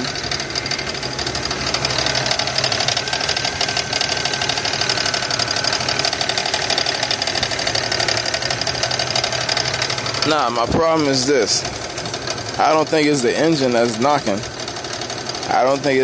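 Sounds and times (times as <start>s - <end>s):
car engine idling: 0.0s - 16.0s
rapid knocking from engine: 0.0s - 16.0s.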